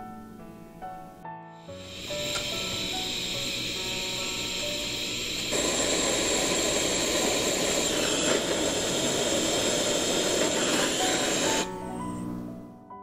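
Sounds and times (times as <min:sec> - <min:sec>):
gas torch flame hissing: 0:01.6 - 0:12.3.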